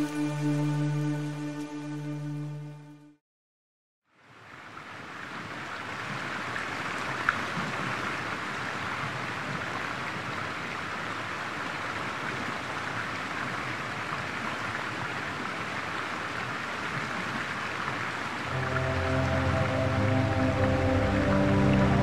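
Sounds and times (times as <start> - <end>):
flowing water rushing: 4.2 - 22.0.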